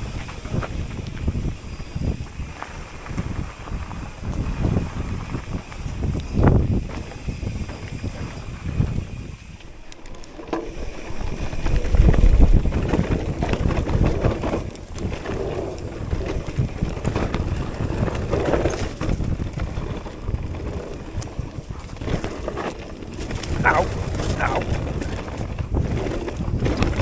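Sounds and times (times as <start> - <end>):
wind on microphone: 0.0 - 9.6, 10.7 - 27.0
bike knocking and rattling: 0.0 - 27.0
bike tyres rumbling over ground: 0.0 - 27.0.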